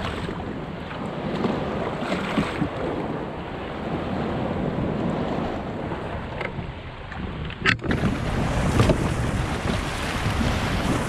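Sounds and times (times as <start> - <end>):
small waves washing: 0.0 - 11.0
wind buffeting microphone: 0.0 - 11.0.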